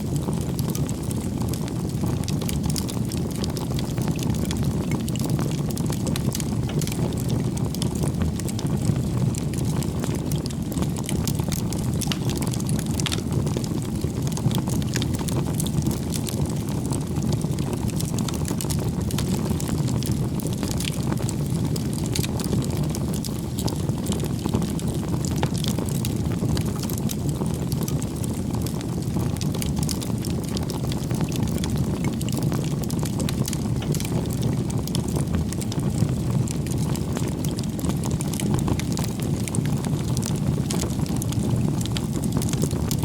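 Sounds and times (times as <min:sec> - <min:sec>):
bonfire crackling and popping: 0:00.0 - 0:43.0.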